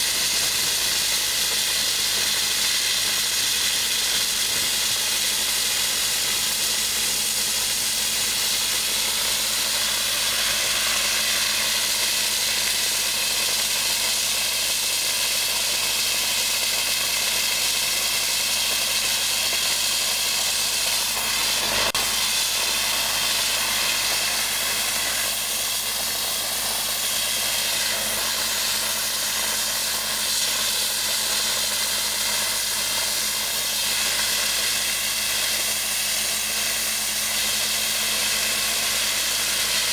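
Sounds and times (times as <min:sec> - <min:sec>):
dry ice blasting hiss: 0:00.0 - 0:39.9.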